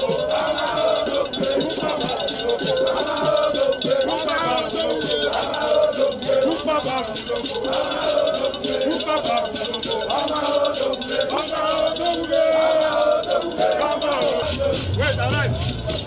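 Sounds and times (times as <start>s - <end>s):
group of voices singing: 0.0s - 16.0s
metal bell striking rapidly: 0.0s - 16.0s.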